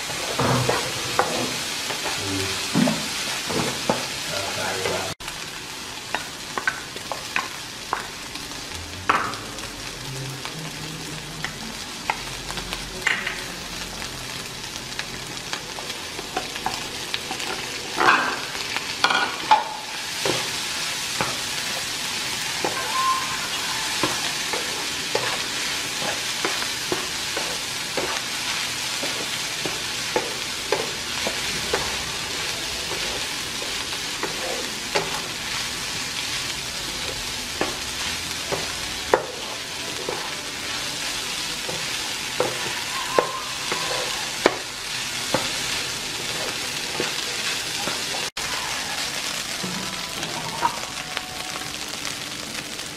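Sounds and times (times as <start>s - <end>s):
rice sizzling in frying pan: 0.0s - 52.9s.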